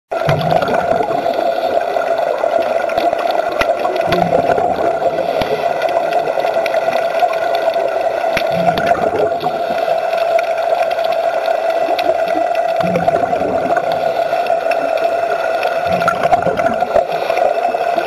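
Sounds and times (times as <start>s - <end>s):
steady underwater hum: 0.1s - 18.0s
water gurgling and bubbling: 0.1s - 18.0s.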